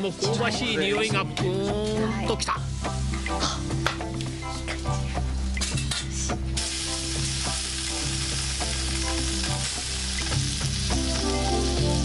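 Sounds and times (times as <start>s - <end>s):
eel sizzling on a grill: 2.2s - 12.0s.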